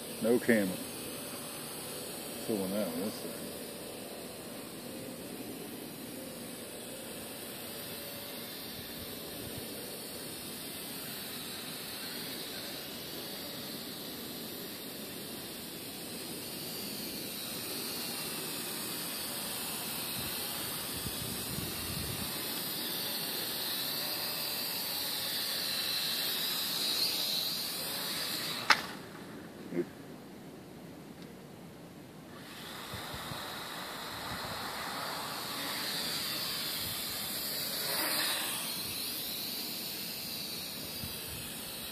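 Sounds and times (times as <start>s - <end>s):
quadcopter motors whining: 0.0s - 30.3s, 32.2s - 41.9s.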